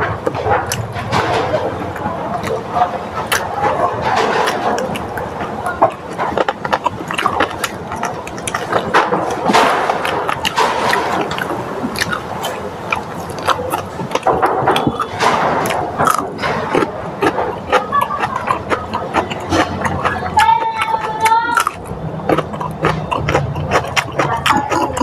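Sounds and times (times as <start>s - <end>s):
crunchy food being chewed: 0.0s - 25.0s
wet mouth noises: 0.0s - 25.0s.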